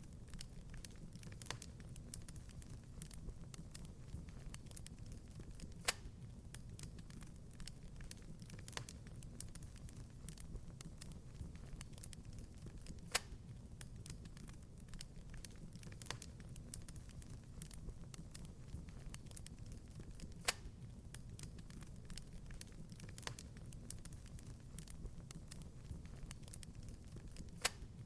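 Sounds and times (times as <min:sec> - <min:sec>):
wood fire crackling: 0:00.0 - 0:28.0
fire popping: 0:00.1 - 0:28.0.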